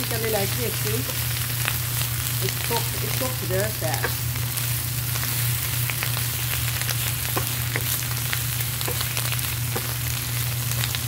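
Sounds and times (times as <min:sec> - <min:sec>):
spatula turning food in pan: 0:00.0 - 0:11.0
vegetables sizzling in oil: 0:00.0 - 0:11.0.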